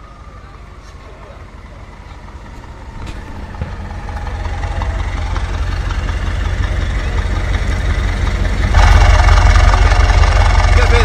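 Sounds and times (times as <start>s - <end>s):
car engine deep rumble: 0.0s - 11.0s.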